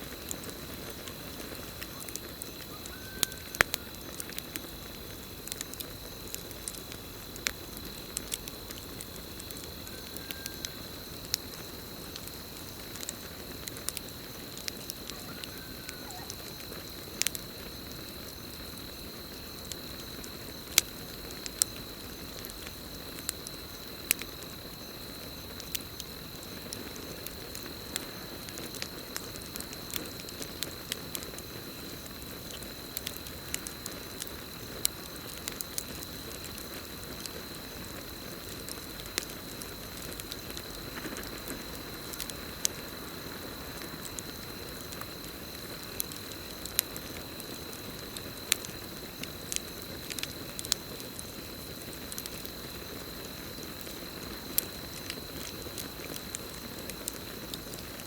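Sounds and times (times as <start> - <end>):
campfire crackling and popping: 0.0 - 58.0
cricket trill: 0.0 - 58.0.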